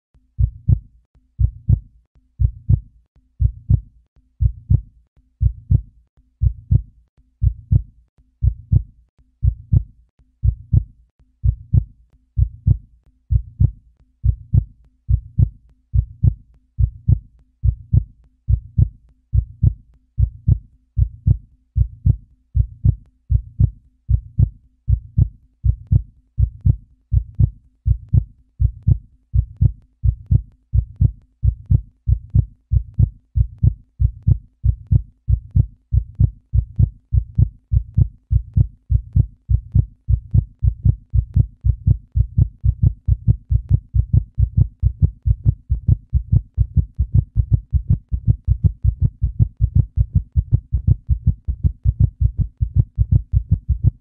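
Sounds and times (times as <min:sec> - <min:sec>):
heartbeat double thumps: 0:00.4 - 0:54.0.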